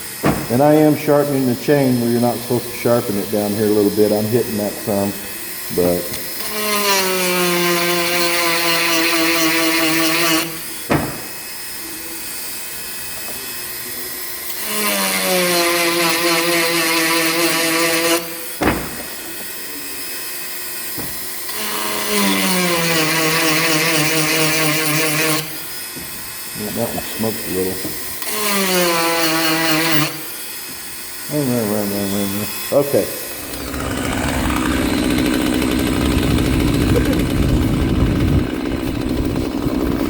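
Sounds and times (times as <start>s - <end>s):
rotary tool grinding: 0.0s - 40.0s.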